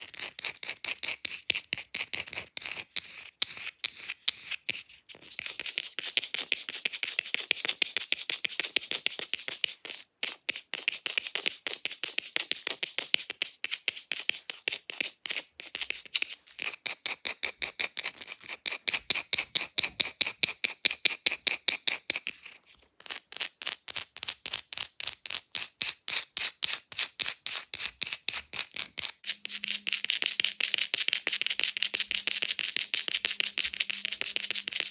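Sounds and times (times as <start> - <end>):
nails scratching a surface: 0.0 - 19.5, 26.1 - 34.9.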